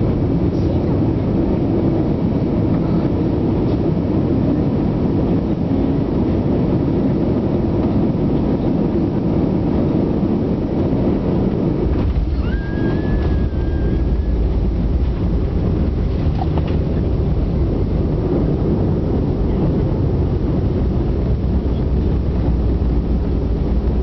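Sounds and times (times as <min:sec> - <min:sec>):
airplane cabin engine and airflow noise: 0:00.0 - 0:24.0
wheels rumbling on runway: 0:00.0 - 0:24.0.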